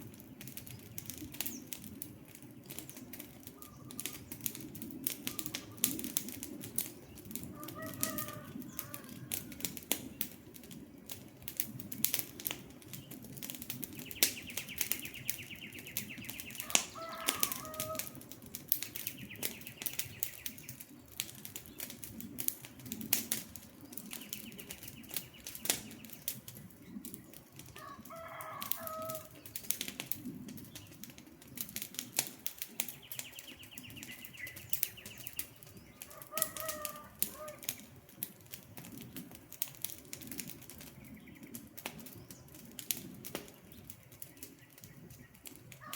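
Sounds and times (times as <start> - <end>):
rush of flame: 0.0 - 45.8
campfire crackling: 0.0 - 45.9
birds calling: 0.1 - 38.0, 38.8 - 45.9.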